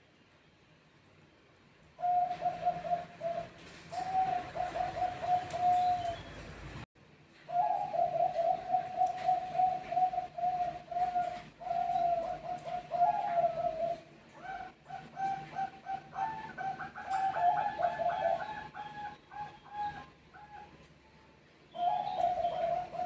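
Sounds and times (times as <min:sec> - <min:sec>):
dove cooing: 0:02.0 - 0:06.4, 0:07.5 - 0:20.9, 0:21.7 - 0:23.0.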